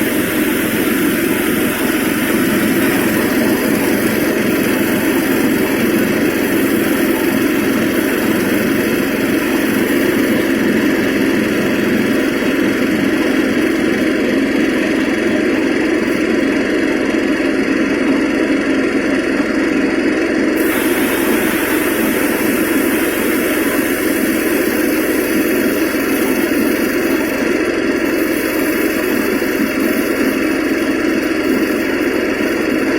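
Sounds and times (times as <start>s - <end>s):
threshing machine drone: 0.0s - 32.9s.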